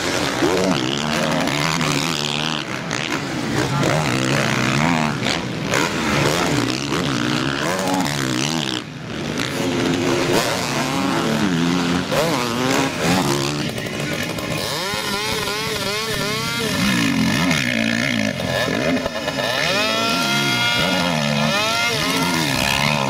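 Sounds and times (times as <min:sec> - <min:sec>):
motocross bike engines revving: 0:00.0 - 0:23.0
single bike engine revving loudly: 0:00.0 - 0:23.0.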